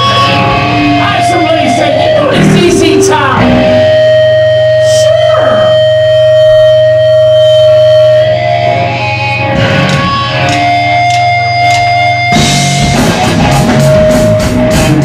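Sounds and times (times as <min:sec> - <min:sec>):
live band with guitar: 0:00.0 - 0:15.0.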